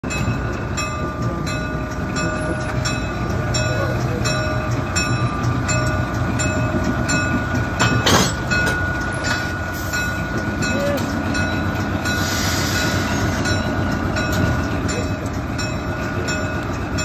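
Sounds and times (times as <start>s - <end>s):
diesel locomotive engine running: 0.0s - 17.0s
locomotive bell ringing: 0.0s - 17.0s.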